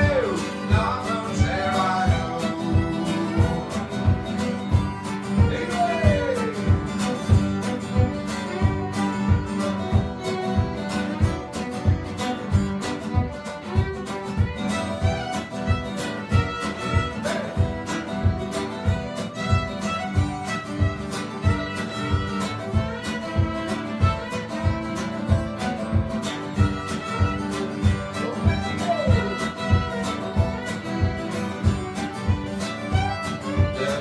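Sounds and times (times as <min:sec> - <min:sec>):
fiddle: 0:00.0 - 0:34.0
guitar: 0:00.0 - 0:34.0
steady low thumps: 0:02.1 - 0:33.8.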